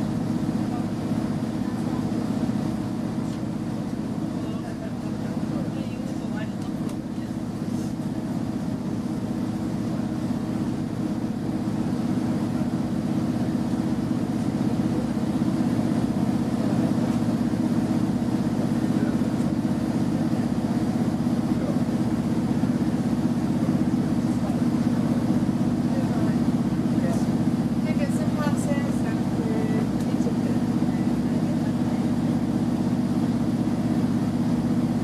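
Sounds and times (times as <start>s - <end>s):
diesel engine drone in train: 0.0s - 35.0s.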